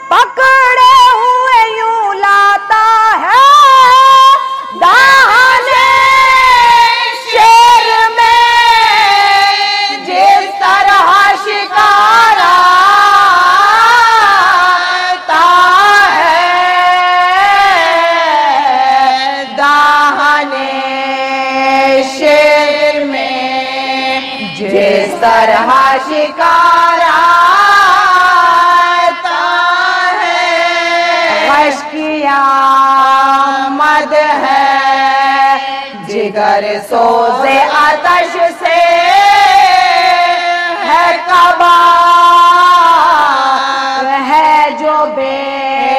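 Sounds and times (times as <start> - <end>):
woman chanting: 0.0 - 45.9.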